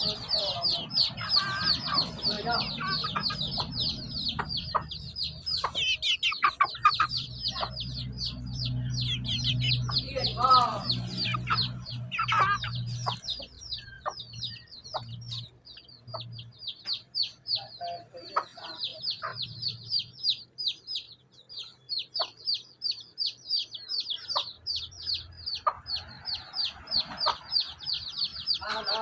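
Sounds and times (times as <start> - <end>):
chicks peeping: 0.0 - 29.0
hen clucking: 0.0 - 29.0.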